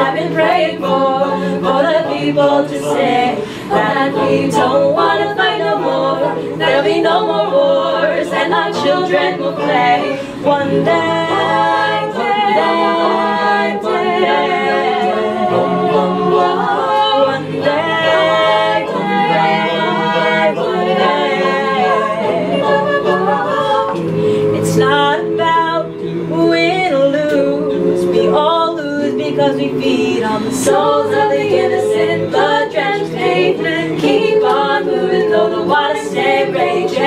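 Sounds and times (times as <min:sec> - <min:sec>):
a cappella group singing in harmony: 0:00.0 - 0:37.0.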